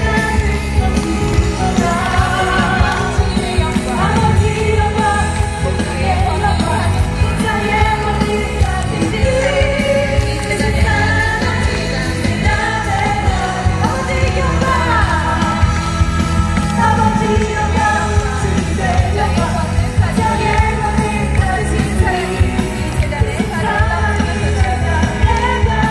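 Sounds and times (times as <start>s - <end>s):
band with heavy bass beat: 0.0s - 25.9s
women singing pop worship song: 0.0s - 25.9s.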